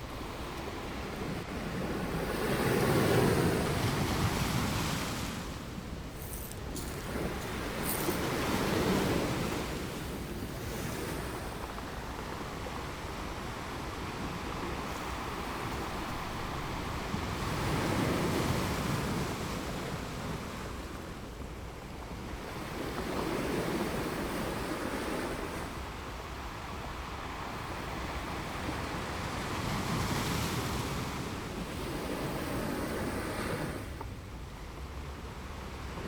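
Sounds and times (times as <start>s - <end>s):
waves breaking on a beach: 0.0s - 36.0s
wind on microphone: 0.0s - 36.0s.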